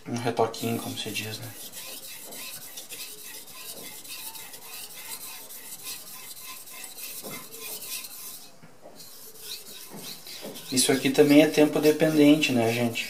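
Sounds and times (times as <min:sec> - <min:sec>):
knife scraping on sharpening stone: 0:01.5 - 0:13.0.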